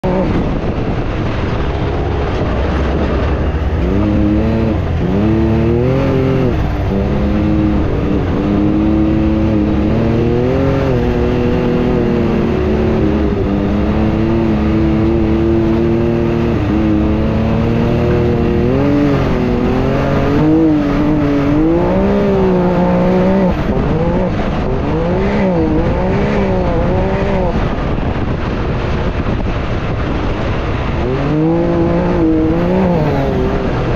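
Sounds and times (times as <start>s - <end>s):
engine revving up and down: 0.0s - 33.9s.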